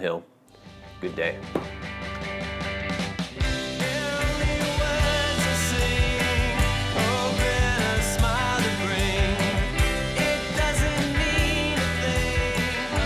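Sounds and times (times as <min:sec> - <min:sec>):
drums keeping a steady beat: 0:00.6 - 0:13.0
bass line: 0:00.8 - 0:13.0.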